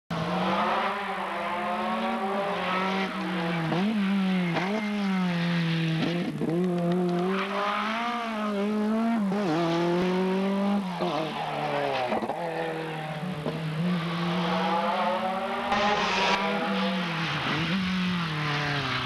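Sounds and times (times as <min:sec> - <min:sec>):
car engine at high revs: 0:00.1 - 0:19.0.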